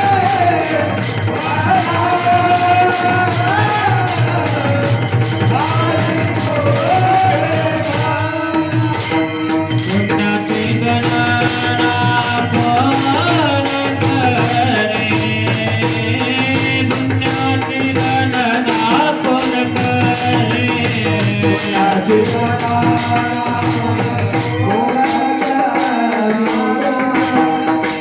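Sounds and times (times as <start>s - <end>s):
hand drum: 0.0s - 28.0s
man singing devotional melody: 0.0s - 28.0s
metallic jingling percussion: 0.0s - 28.0s.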